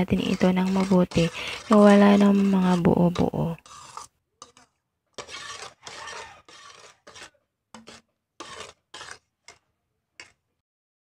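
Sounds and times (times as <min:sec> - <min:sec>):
metal spoon scraping a pot: 0:00.0 - 0:10.5.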